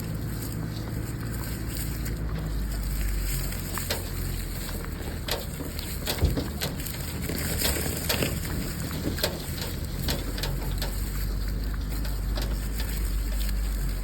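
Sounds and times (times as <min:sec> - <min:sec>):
sharp crackles and crunches: 0:00.0 - 0:14.0
wind rumbling on microphone: 0:00.0 - 0:14.0.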